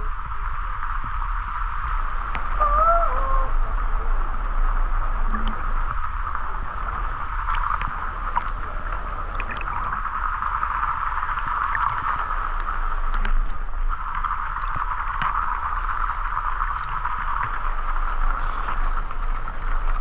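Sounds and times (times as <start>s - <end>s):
water splashes: 0.0s - 20.0s.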